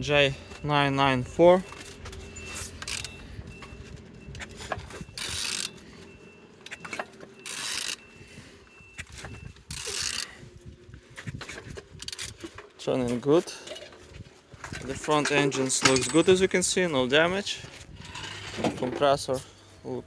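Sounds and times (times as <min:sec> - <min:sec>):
engine turning metallic clicks: 0:00.0 - 0:20.0.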